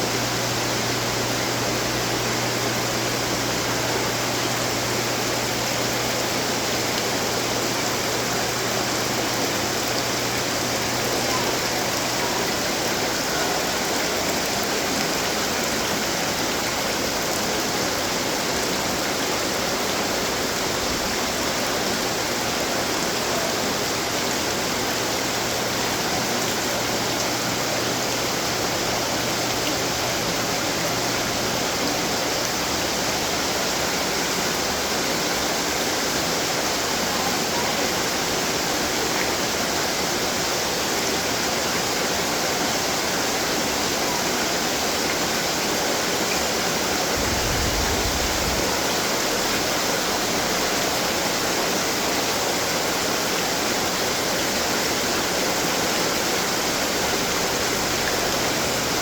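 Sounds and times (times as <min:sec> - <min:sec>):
water fountains splashing: 0:00.0 - 0:59.0.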